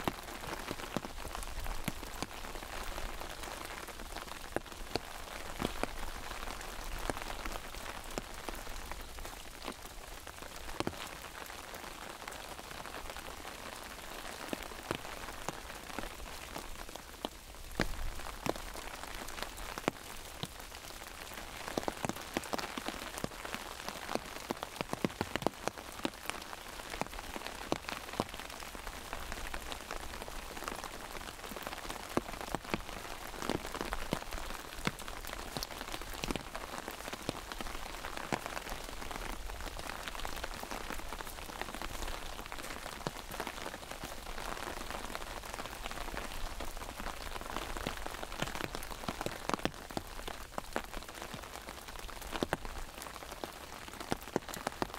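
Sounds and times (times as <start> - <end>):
rain falling on an umbrella: 0.0 - 54.9.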